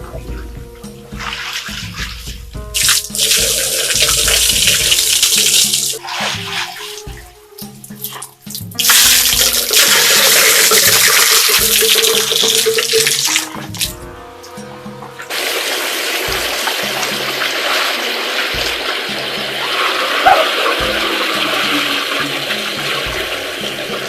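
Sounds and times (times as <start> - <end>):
background music with low notes: 0.0 - 24.0
water pouring: 1.1 - 14.0, 15.1 - 24.0.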